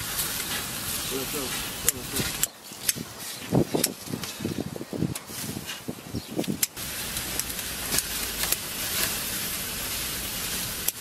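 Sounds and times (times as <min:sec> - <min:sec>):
steady grill hiss: 0:00.0 - 0:11.0.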